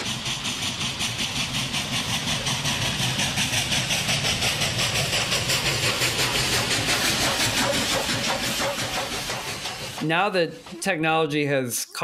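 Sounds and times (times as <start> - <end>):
steam hissing: 0.0 - 11.2
steam locomotive chuffing: 0.0 - 11.5.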